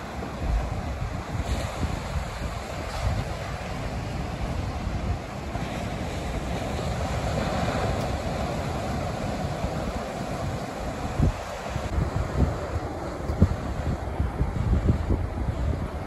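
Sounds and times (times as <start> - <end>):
waves breaking on shore: 0.0 - 16.0
wind rumbling on microphone: 0.0 - 16.0.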